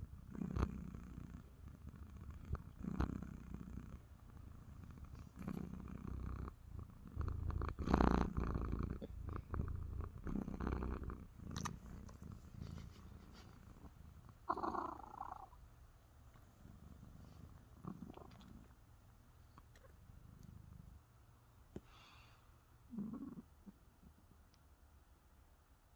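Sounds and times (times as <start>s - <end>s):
cat purring: 0.0s - 21.4s, 22.9s - 24.3s.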